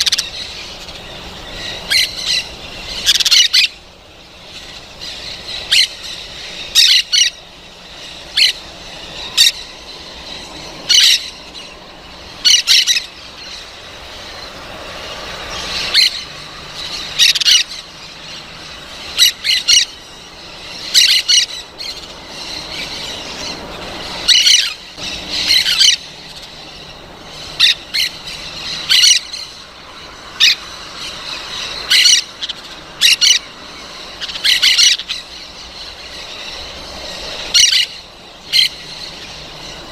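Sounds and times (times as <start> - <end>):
parrot squawking: 0.0 - 14.4, 15.5 - 29.6, 30.2 - 39.8.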